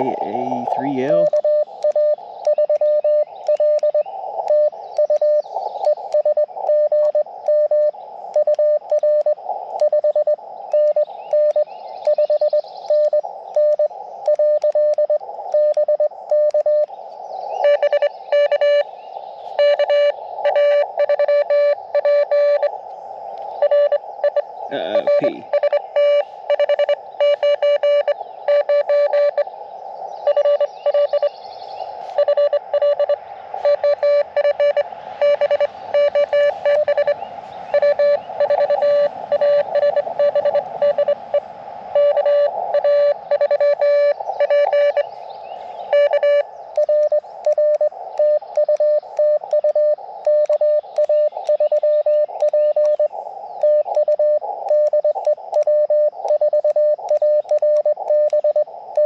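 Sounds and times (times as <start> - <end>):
morse code tone: 0.0 - 16.8, 17.6 - 18.8, 19.6 - 22.7, 23.6 - 29.4, 30.3 - 31.3, 32.0 - 45.1, 45.9 - 59.0
receiver hiss: 0.0 - 59.0.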